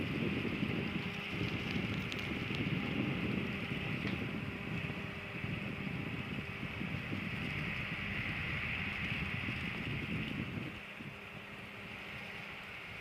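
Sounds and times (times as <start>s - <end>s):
cooling fan air rush: 0.0s - 13.0s
low fan hum: 0.0s - 13.0s.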